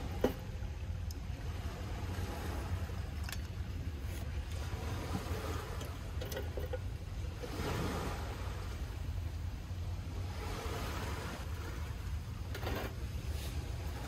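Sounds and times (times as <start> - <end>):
surf: 0.0 - 14.0
wind: 0.0 - 14.0.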